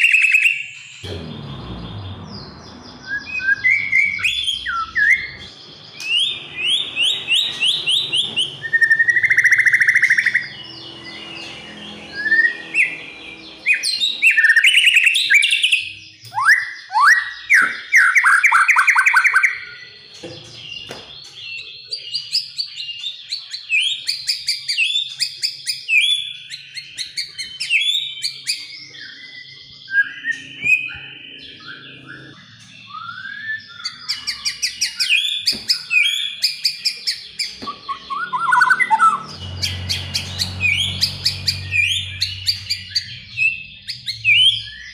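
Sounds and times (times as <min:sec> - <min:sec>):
bird singing whistled song: 0:00.0 - 0:01.1, 0:02.1 - 0:20.0, 0:20.6 - 0:44.9.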